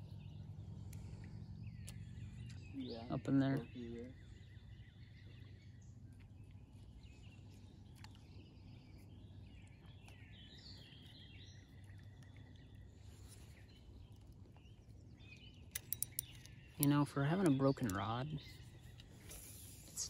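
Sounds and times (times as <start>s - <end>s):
faint birds calling: 0.0s - 20.0s
low steady hum: 0.0s - 20.0s.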